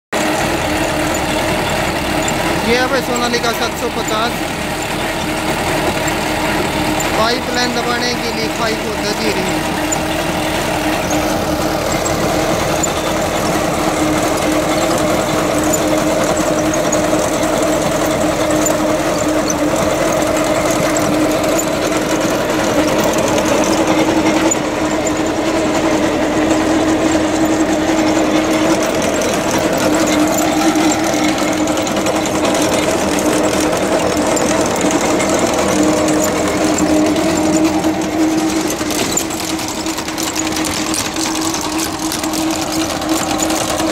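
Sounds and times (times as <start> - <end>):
digging machinery rattling: 0.1 - 43.9
tractor diesel engine running: 0.1 - 43.9.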